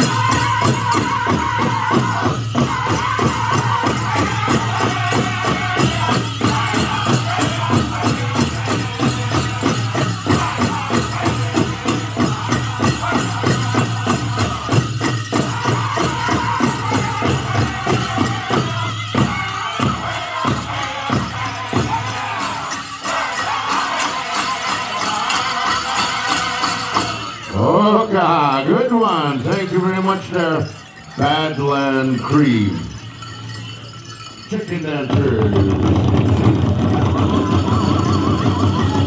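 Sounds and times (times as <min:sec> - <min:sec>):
drum group singing: 0:00.0 - 0:32.9, 0:34.4 - 0:39.0
fast steady drumbeat: 0:00.0 - 0:33.0, 0:34.4 - 0:39.0
bells jingling: 0:00.0 - 0:39.0.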